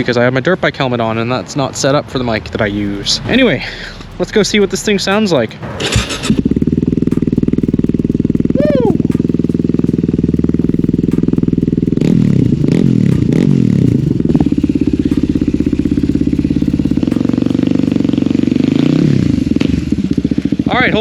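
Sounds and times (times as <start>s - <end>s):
loud motorcycle engine revving: 2.2s - 21.0s.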